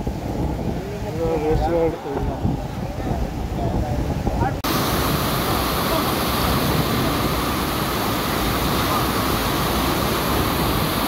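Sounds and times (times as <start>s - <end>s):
water rushing down rocky steps: 0.5s - 11.0s.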